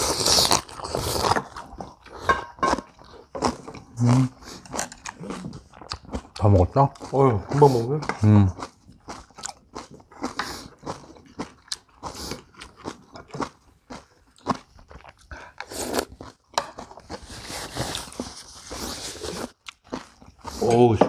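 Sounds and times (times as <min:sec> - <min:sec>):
chewing and crunching food: 0:00.0 - 0:21.0.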